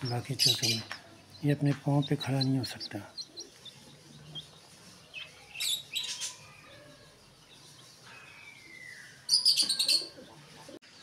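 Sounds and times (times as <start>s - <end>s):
chicks peeping: 0.0s - 10.8s.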